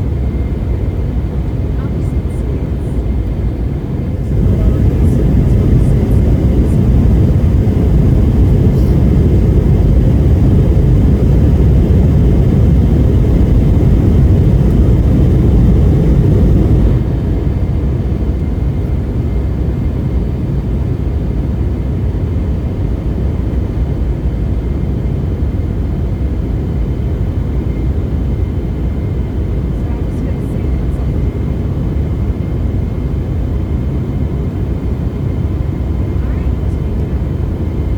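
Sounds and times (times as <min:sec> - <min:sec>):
aircraft drone in flight: 0:00.0 - 0:37.9.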